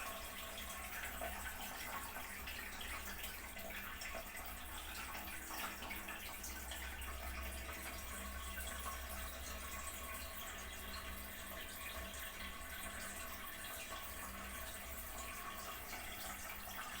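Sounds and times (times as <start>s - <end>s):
faint steady hum: 0.0s - 17.0s
water running into cistern: 0.0s - 17.0s.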